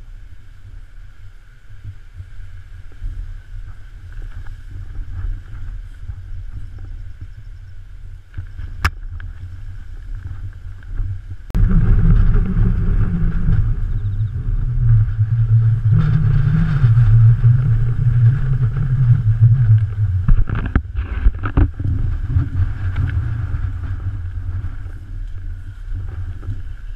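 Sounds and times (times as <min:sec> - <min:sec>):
strong wind buffeting microphone: 0:00.0 - 0:26.9.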